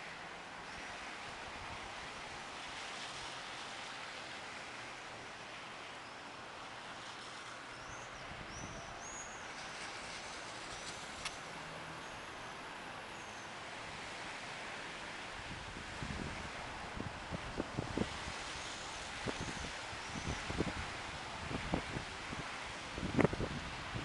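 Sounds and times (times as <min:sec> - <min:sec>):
distant city traffic hiss: 0:00.0 - 0:24.0.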